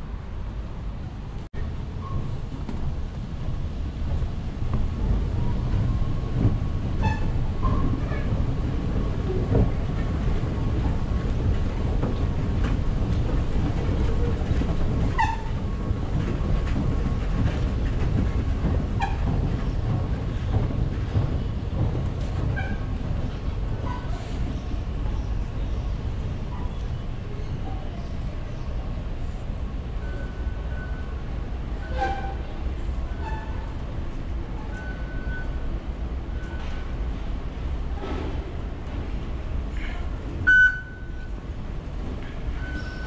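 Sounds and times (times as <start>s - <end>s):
metro station rumble: 0.0s - 43.0s.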